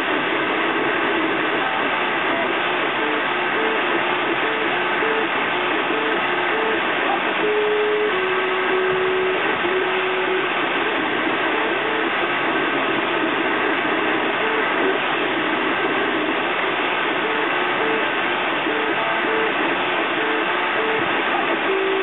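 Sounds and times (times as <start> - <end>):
cooling fan hiss: 0.0 - 22.0.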